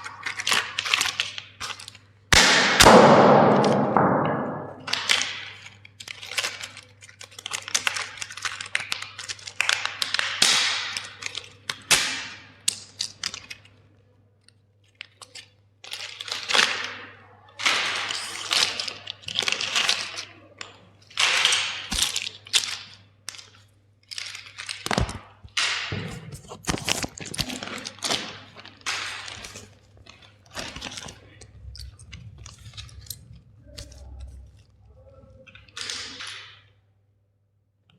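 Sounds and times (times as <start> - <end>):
toys cracking and crunching: 0.0 - 4.0, 4.9 - 34.8, 35.4 - 36.8.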